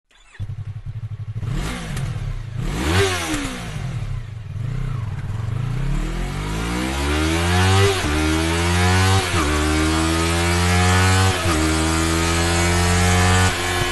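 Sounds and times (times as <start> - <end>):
motorcycle engine revving: 0.1 - 13.9.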